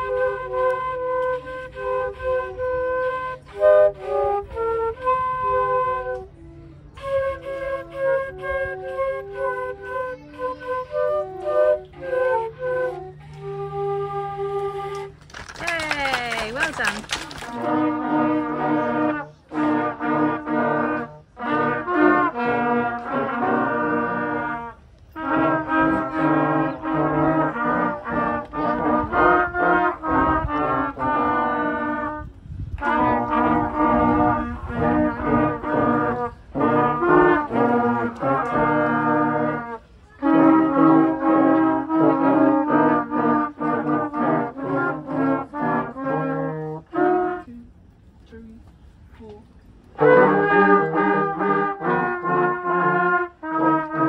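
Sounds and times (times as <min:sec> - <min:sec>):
brass ensemble playing: 0:00.0 - 0:47.9, 0:49.8 - 0:54.0.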